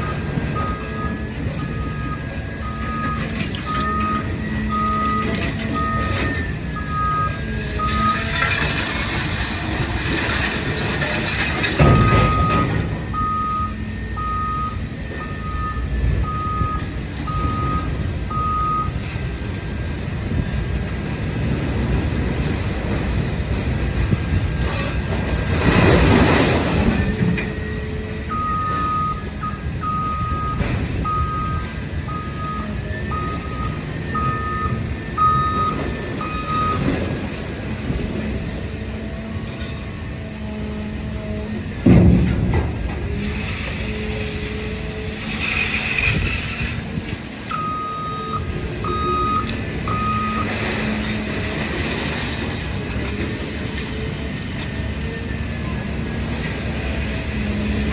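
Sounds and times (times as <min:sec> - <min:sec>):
reversing alarm beeping: 0:00.0 - 0:20.6, 0:22.8 - 0:57.9
heavy machinery running: 0:00.0 - 0:57.9.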